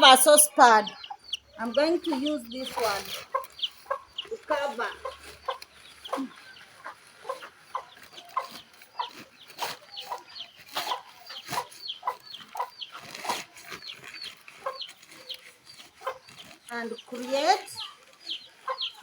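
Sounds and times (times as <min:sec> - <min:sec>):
chickens clucking: 0:00.0 - 0:19.0
handling noises: 0:01.7 - 0:19.0.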